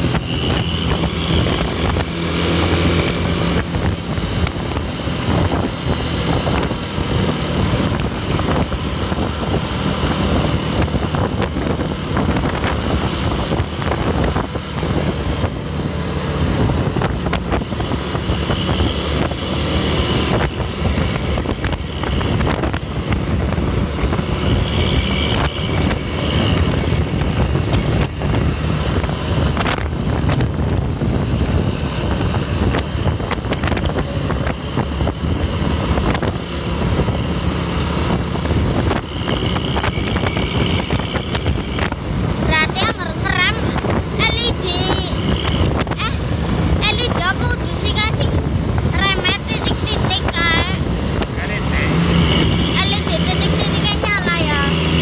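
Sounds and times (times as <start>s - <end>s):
coach engine and road noise: 0.0s - 55.0s.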